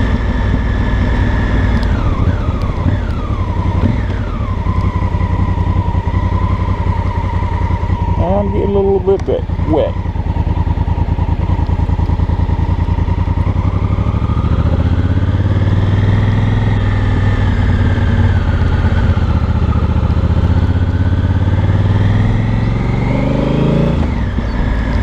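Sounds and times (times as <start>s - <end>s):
motorcycle engine and exhaust: 0.0s - 25.0s.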